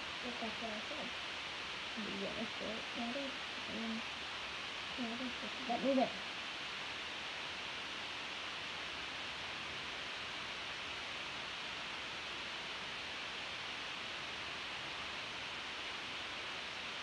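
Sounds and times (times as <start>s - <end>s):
room tone hiss: 0.0s - 17.0s.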